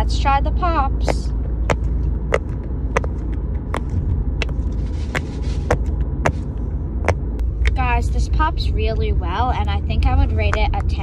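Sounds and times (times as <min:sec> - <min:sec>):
car low rumble: 0:00.0 - 0:11.0.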